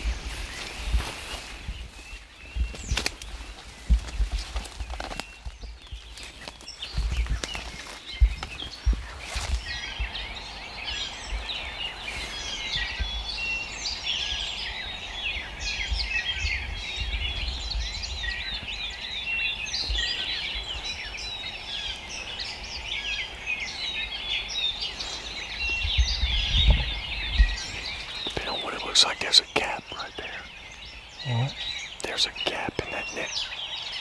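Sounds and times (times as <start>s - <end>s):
songbirds singing and chirping: 0.0s - 34.0s.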